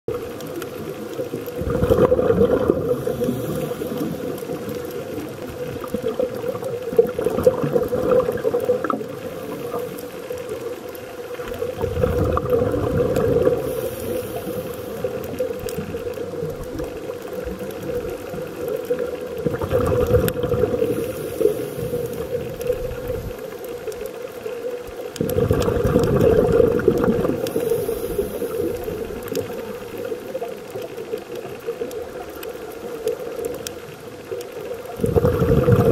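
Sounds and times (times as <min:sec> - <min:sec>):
exhaled bubbles rumbling underwater: 0:00.1 - 0:35.9.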